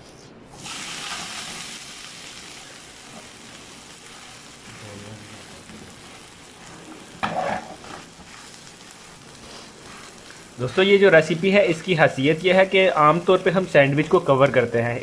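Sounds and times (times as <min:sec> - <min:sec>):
bread sizzling in oil: 0:00.5 - 0:14.8.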